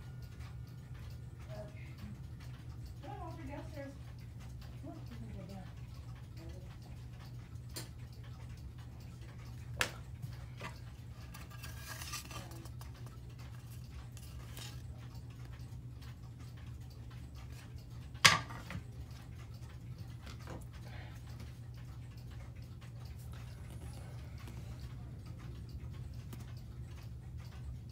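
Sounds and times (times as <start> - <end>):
clock pendulum ticking: 0.0 - 27.9.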